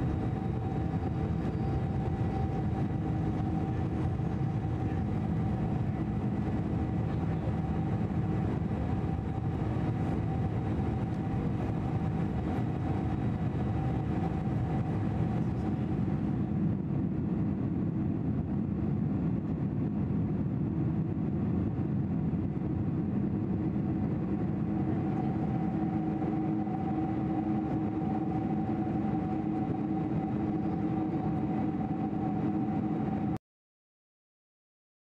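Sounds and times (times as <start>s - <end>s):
faint steady whine: 0.0s - 33.4s
jet engine cabin roar: 0.0s - 33.4s.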